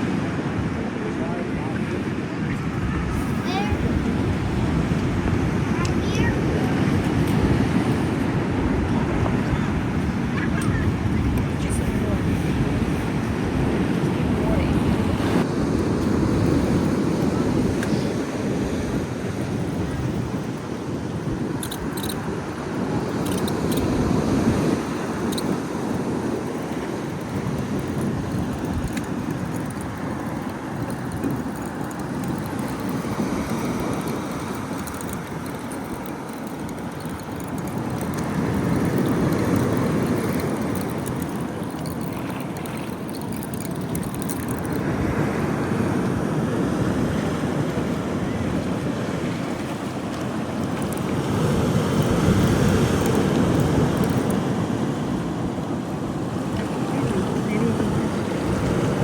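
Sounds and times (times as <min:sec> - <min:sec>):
surf washing: 0:00.0 - 0:59.0
wind buffeting microphone: 0:00.0 - 0:59.0.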